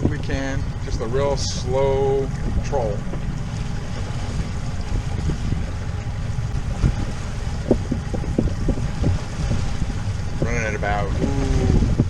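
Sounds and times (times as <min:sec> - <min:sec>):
boat motor rumbling: 0:00.0 - 0:12.0
water: 0:00.0 - 0:12.0
wind on microphone: 0:00.0 - 0:12.0.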